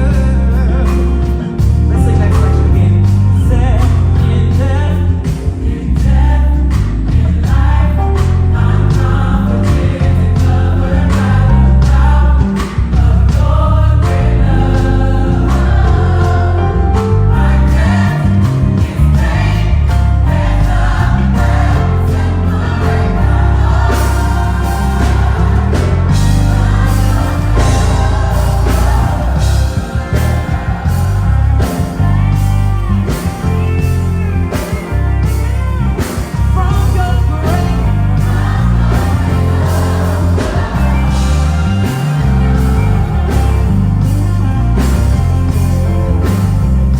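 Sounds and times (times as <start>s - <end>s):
drums keeping a beat: 0.0s - 46.9s
electric bass guitar: 0.0s - 46.9s
gospel choir singing: 0.0s - 46.9s.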